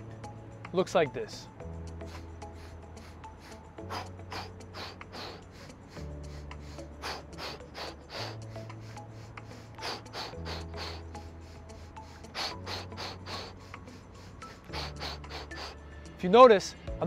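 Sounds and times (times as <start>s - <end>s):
soft background music chords: 0.0s - 17.0s
puffed exhales: 2.0s - 16.0s
sharp sniffing inhales: 2.0s - 16.2s.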